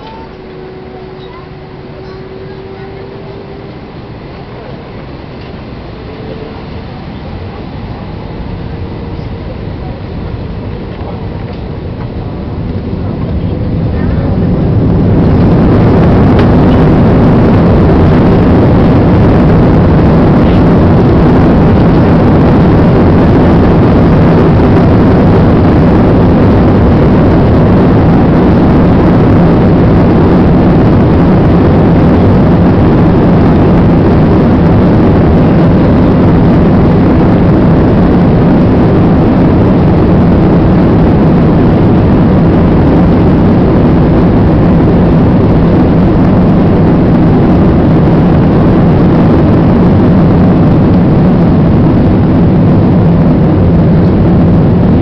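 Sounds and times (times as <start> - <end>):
jet engines at takeoff: 0.0 - 55.0
low hum: 0.0 - 55.0.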